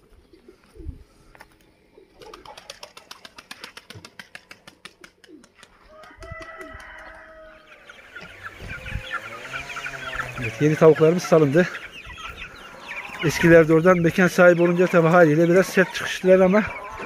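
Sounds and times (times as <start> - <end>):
chickens calling and clucking: 0.0 - 17.0.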